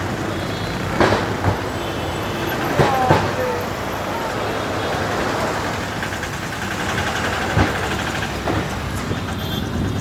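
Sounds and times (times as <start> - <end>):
vehicle engines running: 0.0 - 10.0.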